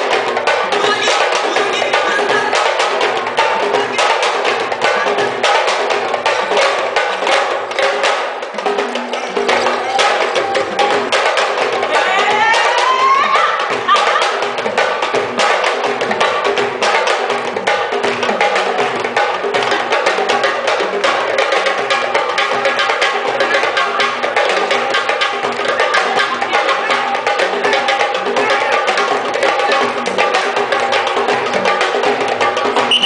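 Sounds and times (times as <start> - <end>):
drum ensemble playing: 0.0 - 33.0.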